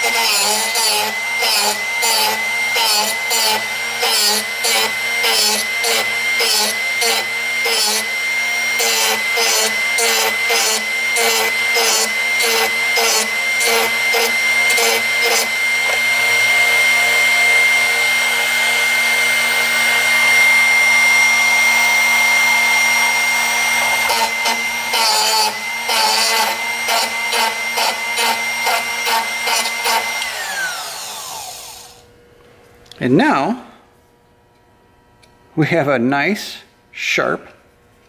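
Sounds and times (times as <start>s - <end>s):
drill bit grinding on wheel: 0.0s - 32.0s
drill bit sharpener motor whining: 0.0s - 32.1s.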